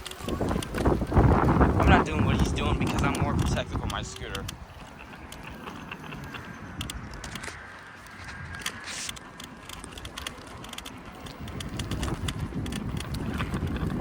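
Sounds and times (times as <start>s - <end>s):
scooter rattling over pavement: 0.0s - 14.0s.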